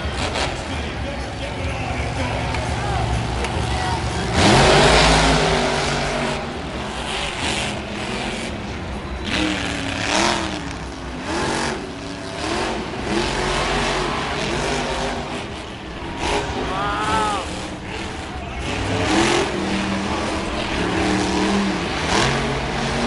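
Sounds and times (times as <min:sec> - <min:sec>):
monster truck engines revving: 0:00.0 - 0:23.0.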